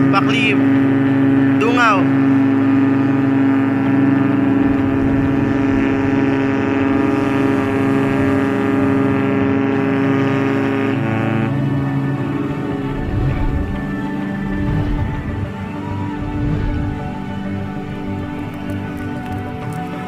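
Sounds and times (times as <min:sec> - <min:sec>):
ship's horn blast: 0:00.0 - 0:20.0.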